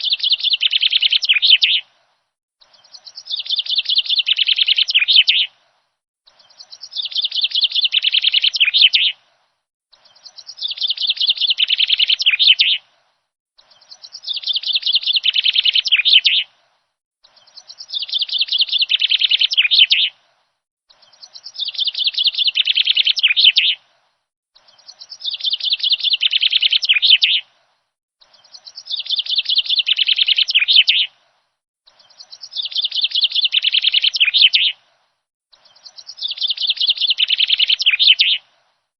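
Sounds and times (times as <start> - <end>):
bird chirping: 0.0 - 1.9, 2.6 - 5.6, 6.2 - 9.2, 9.9 - 13.0, 13.6 - 20.2, 20.9 - 24.0, 24.6 - 31.2, 31.8 - 38.8.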